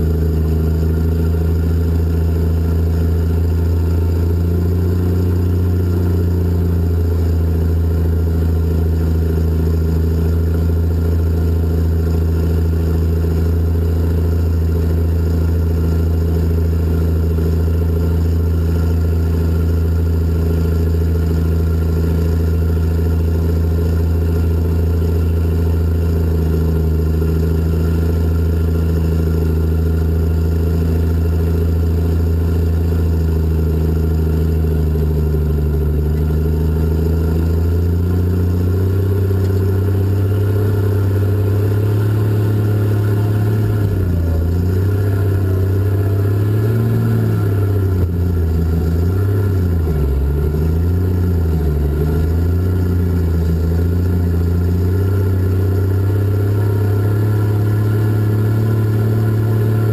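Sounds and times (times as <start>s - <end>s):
diesel engines droning: 0.0s - 59.9s.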